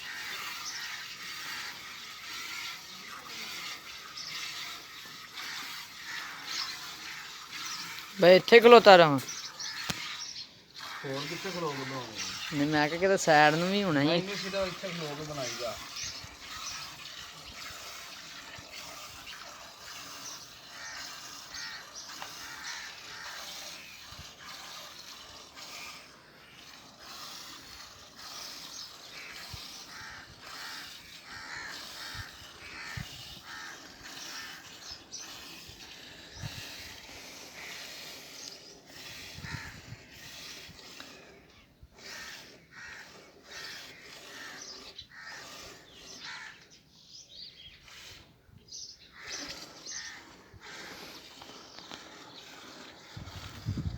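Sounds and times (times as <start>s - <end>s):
milk squirting in hissing spurts: 0.0s - 46.6s, 47.6s - 48.4s, 49.2s - 53.9s.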